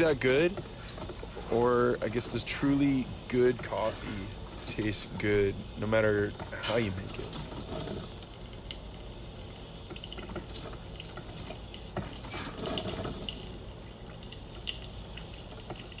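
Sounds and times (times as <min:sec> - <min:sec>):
coffee maker water gurgling: 0:00.0 - 0:16.0
steady hiss: 0:00.0 - 0:16.0.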